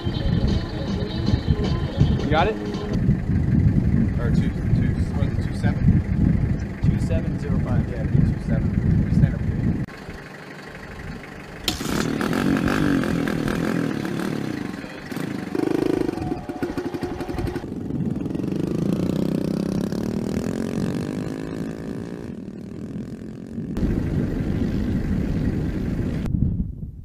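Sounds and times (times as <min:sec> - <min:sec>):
dirt bike engines revving: 0:02.3 - 0:26.3.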